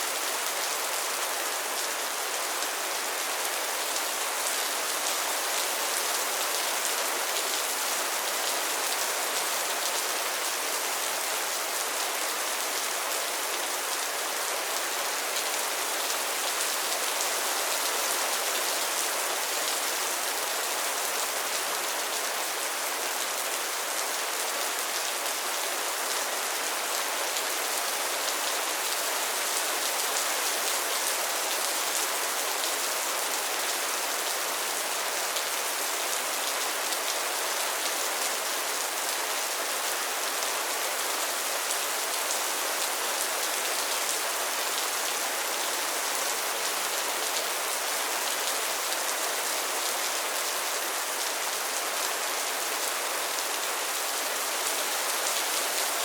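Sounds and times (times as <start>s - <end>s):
rain falling on pond water: 0.0s - 56.0s.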